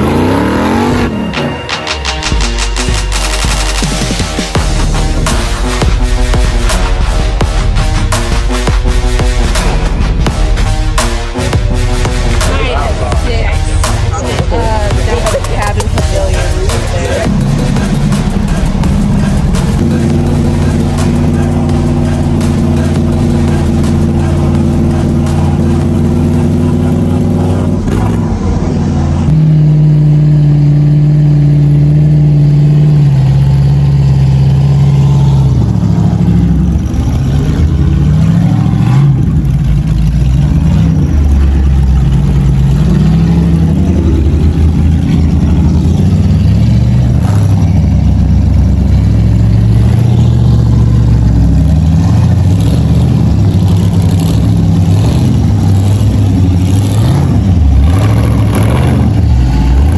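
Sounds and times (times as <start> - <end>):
engine revving up and down: 0.0 - 10.8, 11.5 - 59.9.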